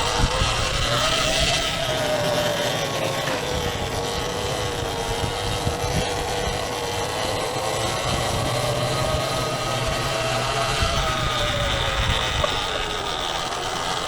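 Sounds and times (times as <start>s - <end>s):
electric motor whine: 0.0s - 14.0s
tyre and wind noise: 0.0s - 14.0s.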